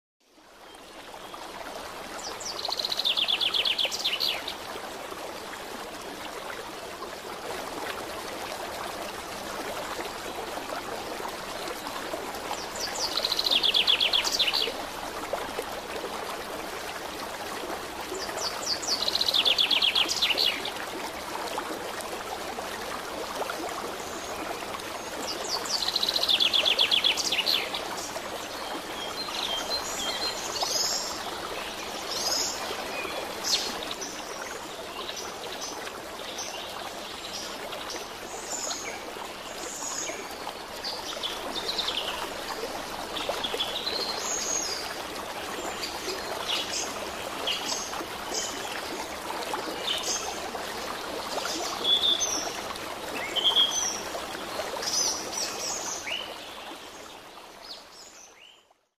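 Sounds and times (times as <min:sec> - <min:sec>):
running stream: 0:00.2 - 0:58.9.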